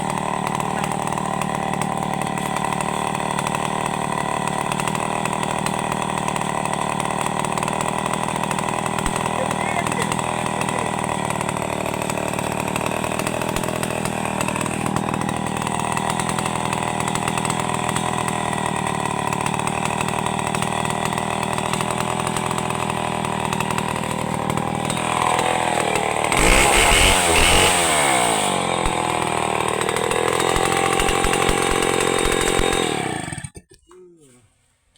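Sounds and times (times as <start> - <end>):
chainsaw engine running: 0.0 - 33.7.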